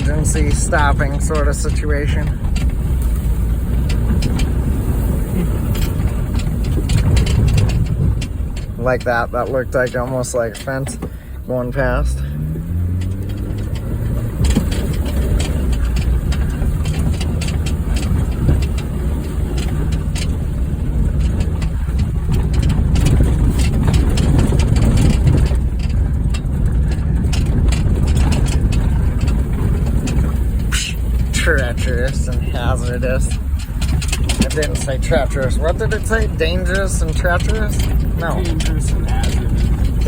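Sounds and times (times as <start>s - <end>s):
car body knocking and rattling: 0.0s - 40.0s
car engine running: 0.0s - 40.0s.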